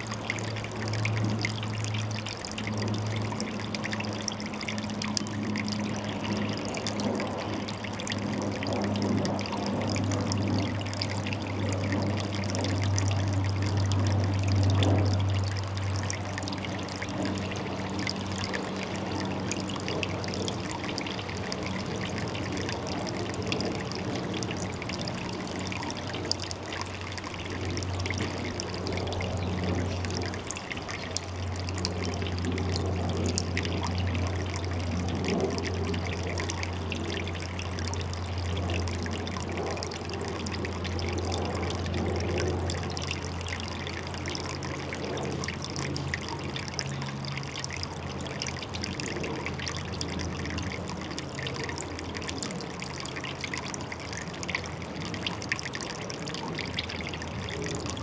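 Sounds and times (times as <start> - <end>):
steady low hum: 0.0 - 58.0
water pouring into pond: 0.0 - 58.0.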